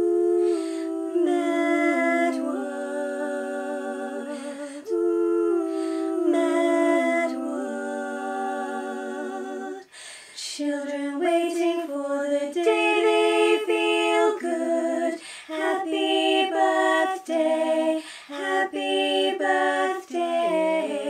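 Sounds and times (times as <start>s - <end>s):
woman singing a cappella harmony: 0.0s - 21.0s.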